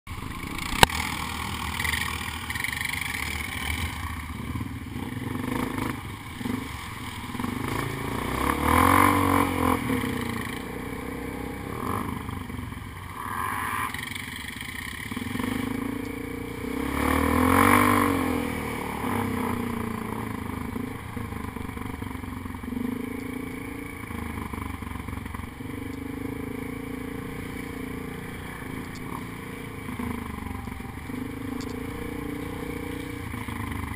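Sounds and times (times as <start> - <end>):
quad bike engine revving: 0.1 - 33.9.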